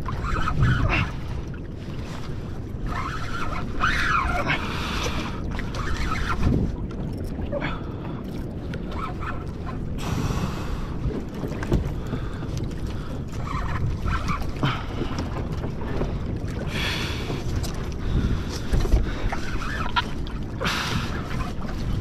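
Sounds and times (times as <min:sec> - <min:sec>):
water sloshing against hull: 0:00.0 - 0:22.0
wind buffeting microphone: 0:00.0 - 0:22.0.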